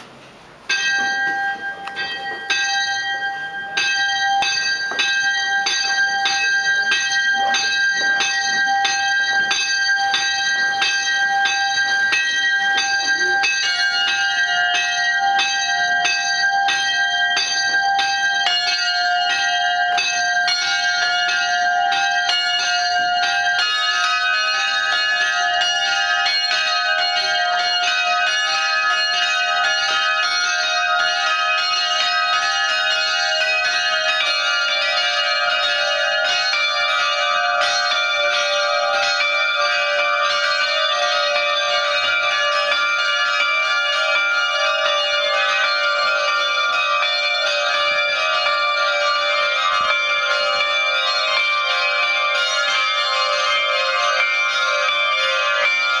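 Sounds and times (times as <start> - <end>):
church bells ringing in a peal: 0.0 - 56.0.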